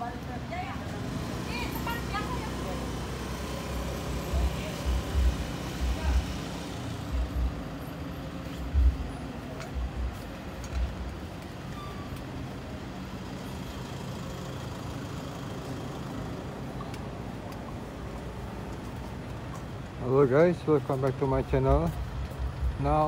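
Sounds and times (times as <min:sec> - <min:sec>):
scooters and cars passing: 0:00.0 - 0:23.0.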